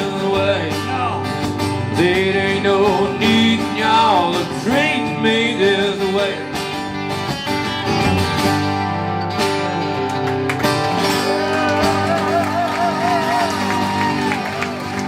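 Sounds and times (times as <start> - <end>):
country band playing: 0.0 - 15.0
guitar strumming: 0.0 - 15.0.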